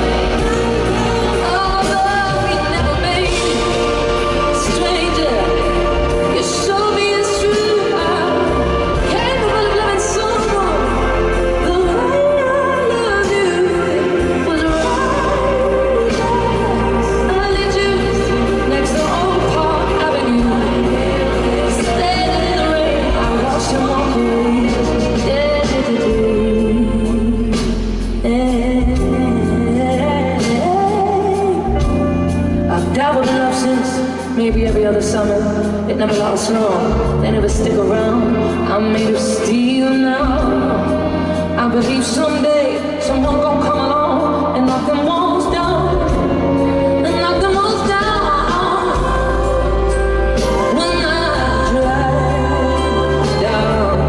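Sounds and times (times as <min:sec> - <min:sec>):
live pop band playing: 0:00.0 - 0:54.0
woman singing: 0:00.0 - 0:54.0.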